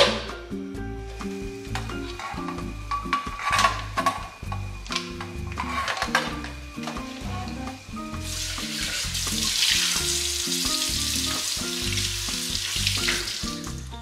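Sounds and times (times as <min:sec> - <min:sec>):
background music: 0:00.0 - 0:14.0
tap water running on metal lid: 0:01.6 - 0:13.8.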